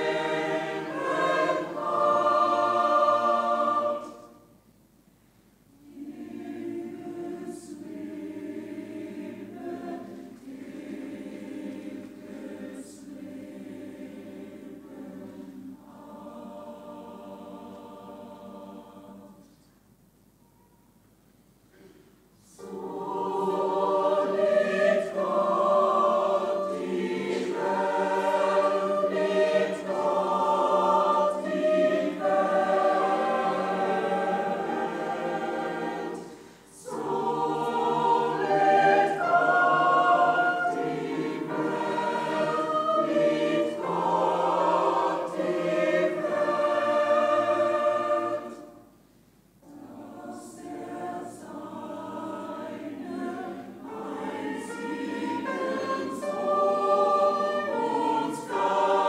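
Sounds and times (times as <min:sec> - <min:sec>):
mixed choir singing in parts: 0:00.0 - 0:04.6, 0:05.7 - 0:19.6, 0:21.8 - 0:48.9, 0:49.6 - 0:59.0.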